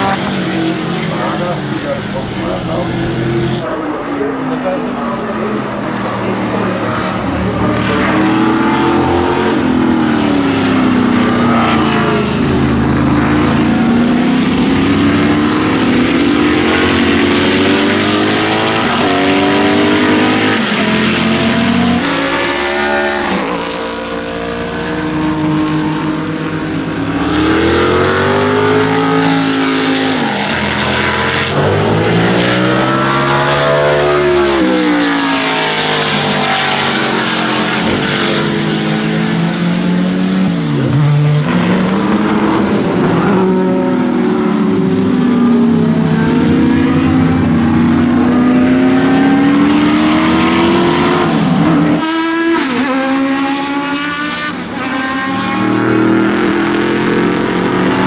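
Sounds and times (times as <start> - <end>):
race car engines passing: 0.0 - 58.0.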